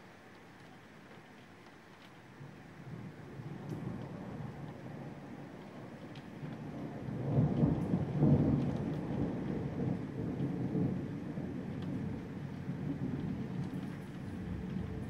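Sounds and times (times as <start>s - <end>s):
thunder rumbling: 2.8s - 15.0s.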